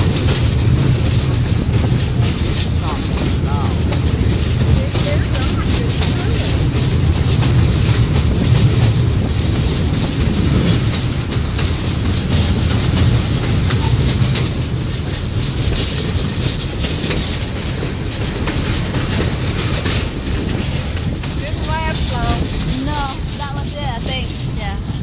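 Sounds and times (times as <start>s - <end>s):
train rumbling over a bridge: 0.0s - 25.0s.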